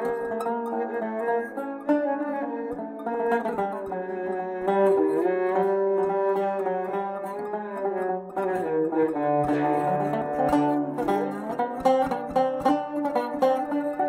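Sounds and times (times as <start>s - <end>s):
bowed long-necked lute: 0.0s - 14.0s
plucked lute: 0.0s - 14.0s.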